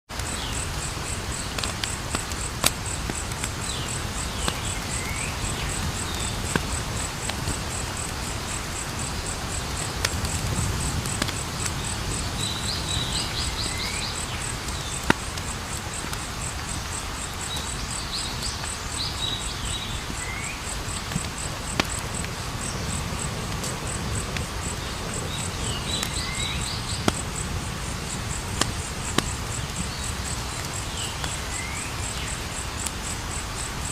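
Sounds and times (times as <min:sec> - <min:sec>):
campfire crackling: 0:00.1 - 0:33.9
crickets chirping: 0:00.1 - 0:33.9.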